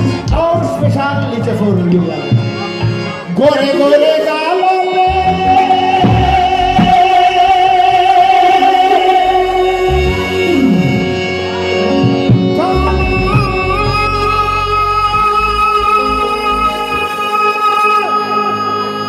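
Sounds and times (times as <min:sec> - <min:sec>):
man singing: 0:00.0 - 0:02.6, 0:03.2 - 0:19.0
harmonium: 0:00.0 - 0:19.0
keyboard: 0:00.0 - 0:19.0.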